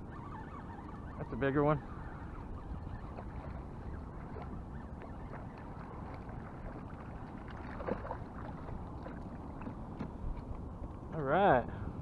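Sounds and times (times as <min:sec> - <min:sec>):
water moving around a kayak: 0:00.0 - 0:11.1
wind on microphone: 0:00.0 - 0:11.1.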